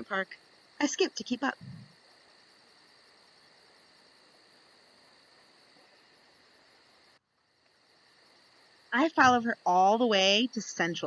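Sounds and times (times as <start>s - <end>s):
steady high-pitched hiss: 0.0s - 11.0s.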